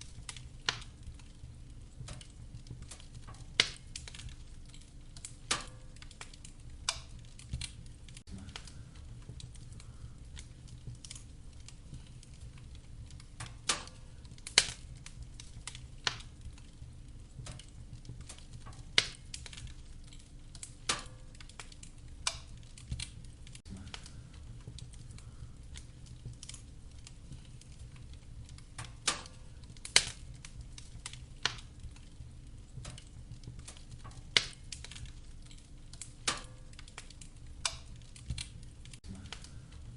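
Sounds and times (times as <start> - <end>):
fire crackling and popping: 0.0 - 39.9
low fire rumble: 0.0 - 39.9.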